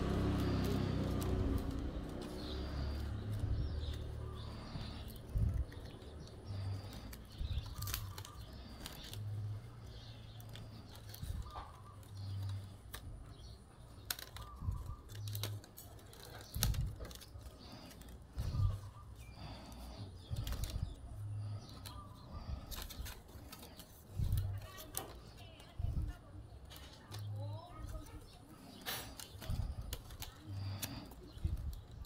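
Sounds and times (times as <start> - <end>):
bamboo strips rustling and clicking: 0.0 - 32.0.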